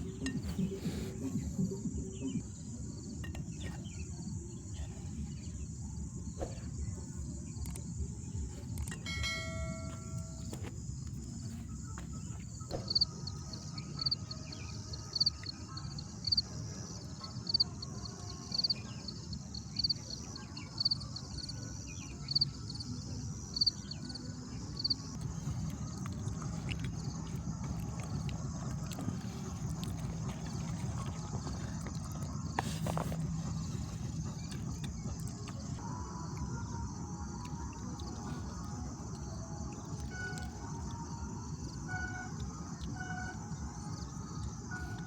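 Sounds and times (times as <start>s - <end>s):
high insect drone: 3.8s - 45.0s.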